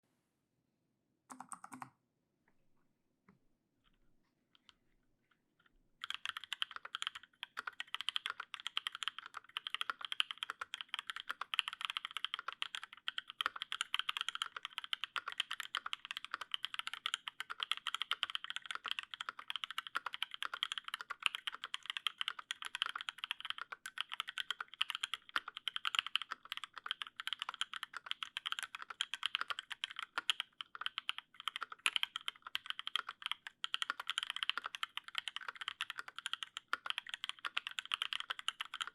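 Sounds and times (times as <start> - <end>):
fast mechanical keyboard typing: 6.0 - 38.9.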